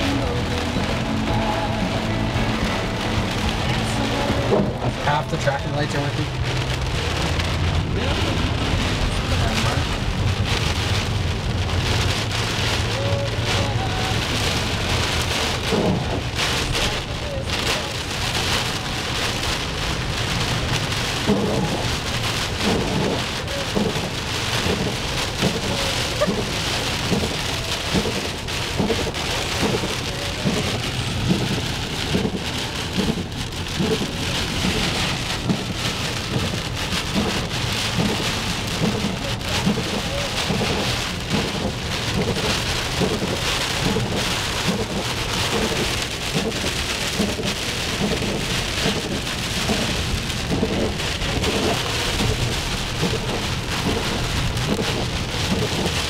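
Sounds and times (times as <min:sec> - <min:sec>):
heavy rain on car roof: 0:00.0 - 0:56.0
steady low rumble: 0:00.0 - 0:56.0.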